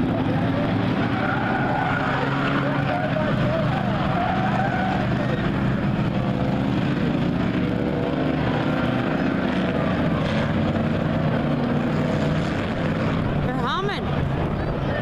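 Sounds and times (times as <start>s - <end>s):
many race car engines: 0.0s - 15.0s.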